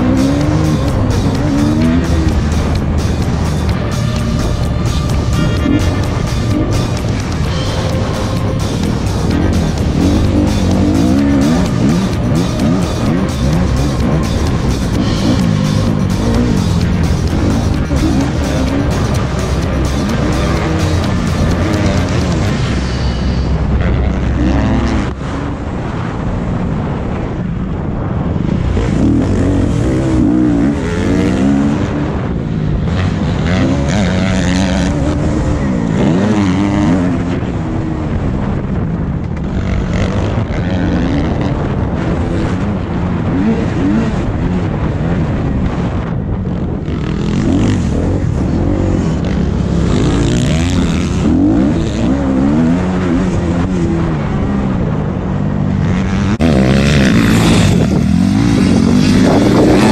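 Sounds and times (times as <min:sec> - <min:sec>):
motocross bike engine revving: 0:00.0 - 0:26.2, 0:28.5 - 0:59.9.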